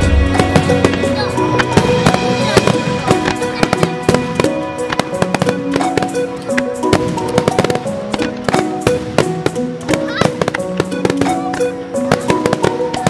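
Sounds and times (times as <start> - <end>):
fireworks bangs and crackles: 0.0 - 13.0
music with held notes: 0.0 - 13.0.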